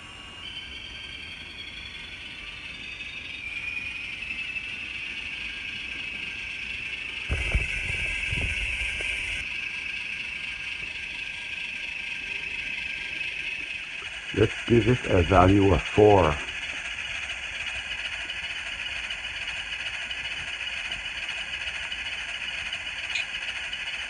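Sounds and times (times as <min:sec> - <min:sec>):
diesel engine sound from tiny speaker: 0:00.0 - 0:24.0.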